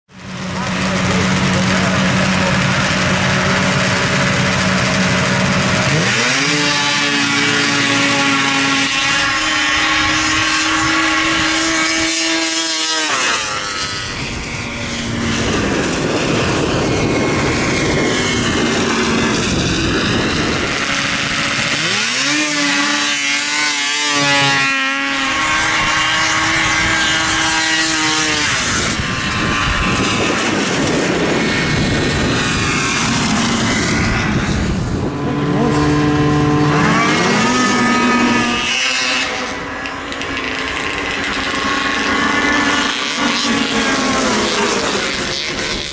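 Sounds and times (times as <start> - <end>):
snowmobile engines revving: 0.1 - 45.9.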